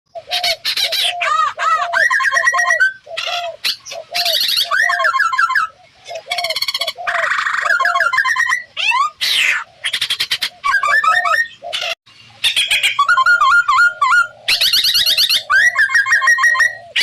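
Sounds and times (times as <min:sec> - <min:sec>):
birds chirping and trilling: 0:00.1 - 0:17.0.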